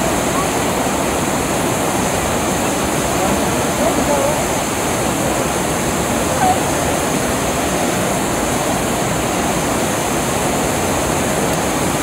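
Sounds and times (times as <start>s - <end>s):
rapids roaring over boulders: 0.0s - 12.0s.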